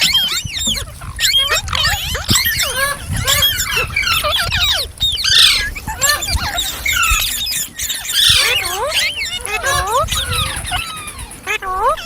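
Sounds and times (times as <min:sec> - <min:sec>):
parrots chattering and screeching: 0:00.0 - 0:12.0.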